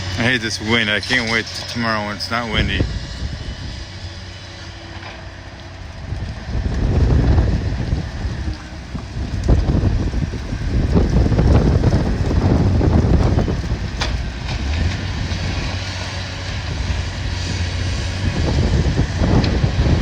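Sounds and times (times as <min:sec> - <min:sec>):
diesel engine running: 0:00.0 - 0:20.0
wind buffeting microphone: 0:02.0 - 0:20.0.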